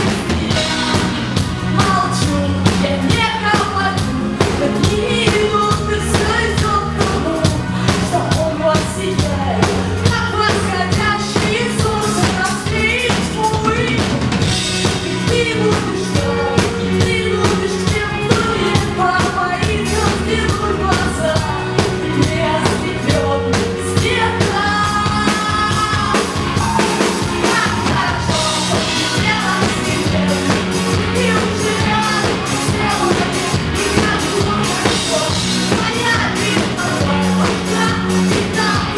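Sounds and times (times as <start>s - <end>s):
drum kit beat: 0.0s - 38.9s
live band playing: 0.0s - 38.9s
person singing: 0.0s - 38.9s.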